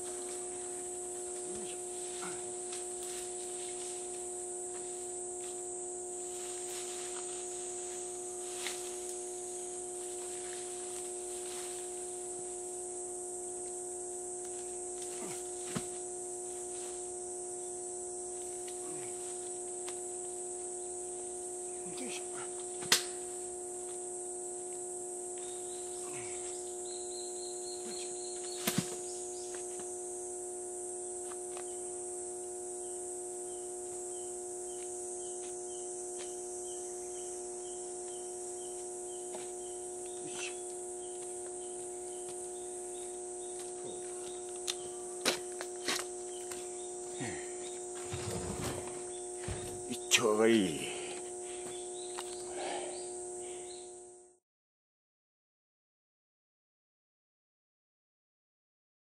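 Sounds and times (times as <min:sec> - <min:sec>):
low hum: 0:00.0 - 0:54.2
insects buzzing: 0:00.0 - 0:54.4.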